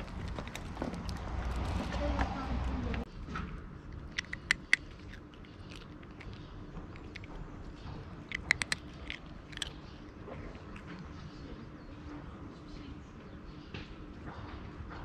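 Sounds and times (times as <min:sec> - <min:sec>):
cat crunching dry kibble: 0:00.0 - 0:12.1.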